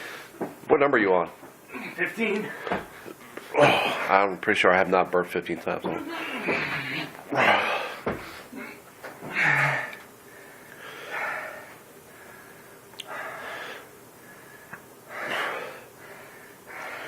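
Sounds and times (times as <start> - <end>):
man breathing heavily: 0.0 - 0.4, 1.7 - 4.2, 6.0 - 17.0.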